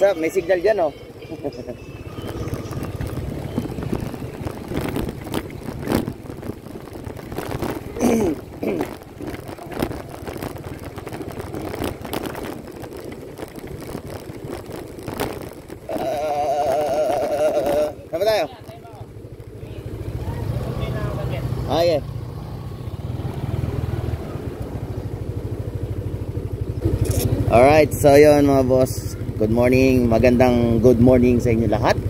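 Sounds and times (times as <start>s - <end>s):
motorcycle rumble: 0.0s - 32.0s
wind buffeting microphone: 0.0s - 32.0s.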